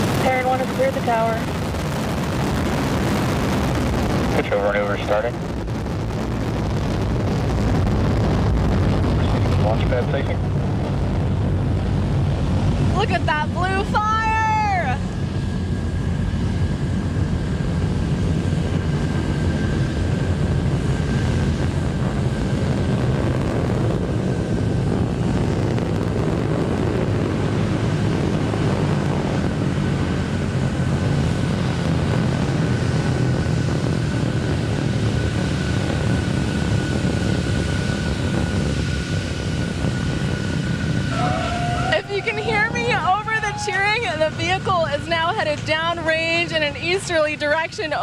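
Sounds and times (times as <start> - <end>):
rocket engines deep rumble: 0.0 - 48.0.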